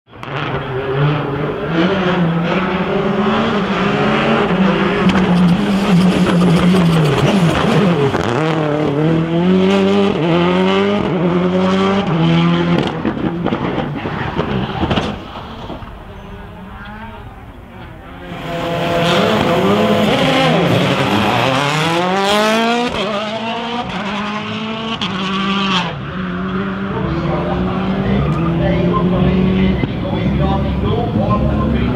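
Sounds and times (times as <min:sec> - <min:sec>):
rally car engines revving: 0:00.1 - 0:31.9.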